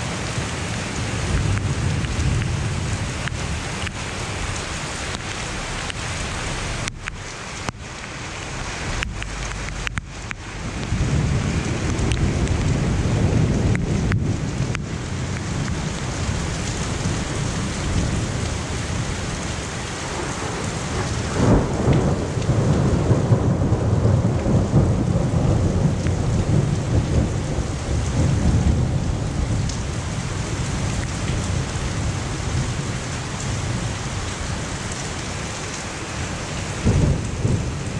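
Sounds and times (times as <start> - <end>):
thunder rumbling: 0.0 - 34.9, 36.2 - 37.9
heavy rain pouring: 0.0 - 37.9.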